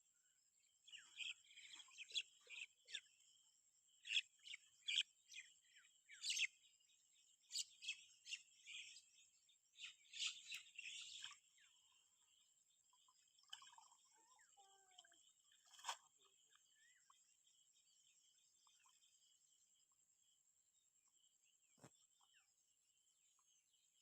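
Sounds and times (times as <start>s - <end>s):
small birds chirping: 0.7s - 24.0s.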